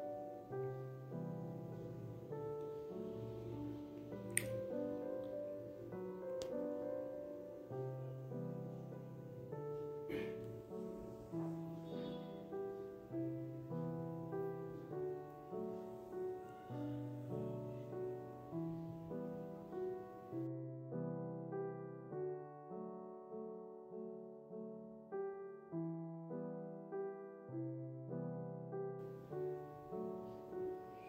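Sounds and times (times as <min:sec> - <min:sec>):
soft piano music: 0:00.0 - 0:31.0.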